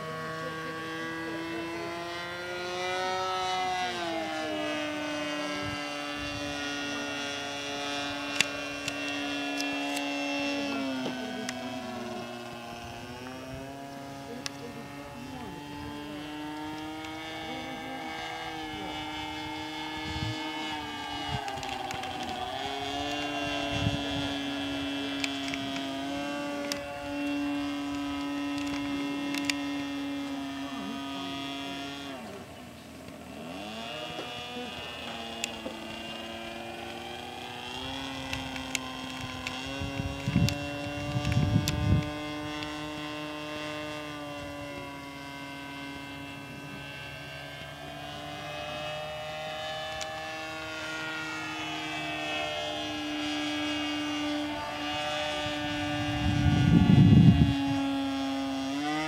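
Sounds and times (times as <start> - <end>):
model plane engine and propeller: 0.0 - 59.0.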